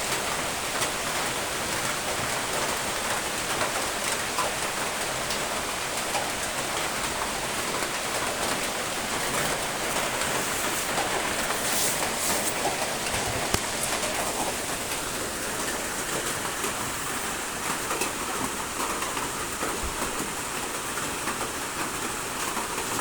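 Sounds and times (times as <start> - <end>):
rain falling on a surface: 0.0 - 23.0.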